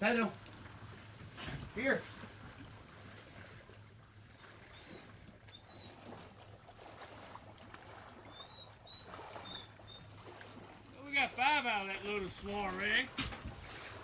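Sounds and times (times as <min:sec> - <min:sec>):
water sloshing and rustling: 0:00.0 - 0:14.0.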